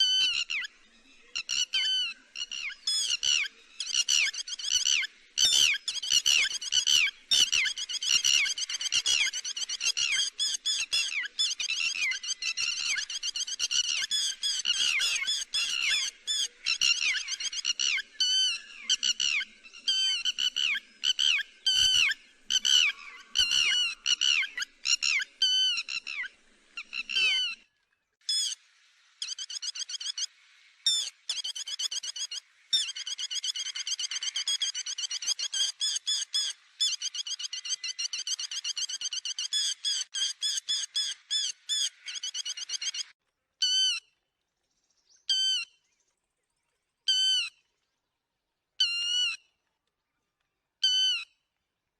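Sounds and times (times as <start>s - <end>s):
lapwing calling: 0.0s - 27.6s, 29.2s - 44.1s, 48.8s - 49.4s, 50.8s - 51.3s.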